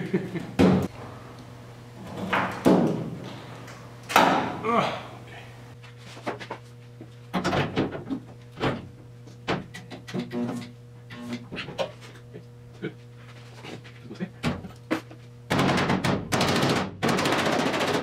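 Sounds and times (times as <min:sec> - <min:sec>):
steady electrical hum: 0:00.0 - 0:17.1.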